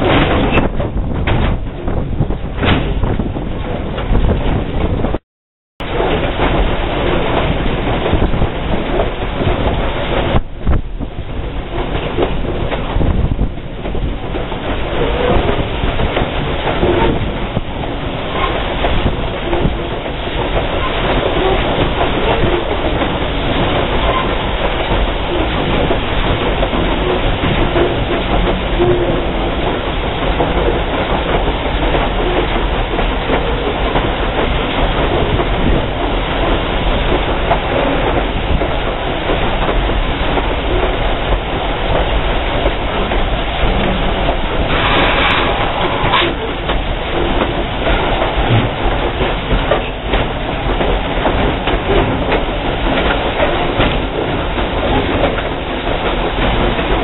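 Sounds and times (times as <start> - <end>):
train wheels rolling on rail: 0.0 - 5.2, 5.8 - 57.0.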